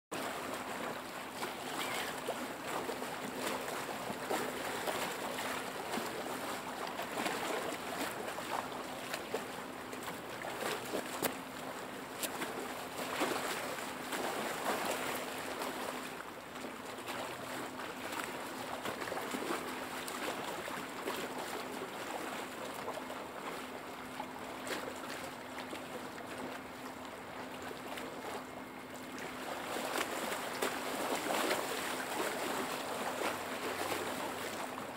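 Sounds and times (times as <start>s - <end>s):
lake waves lapping: 0.2s - 34.9s.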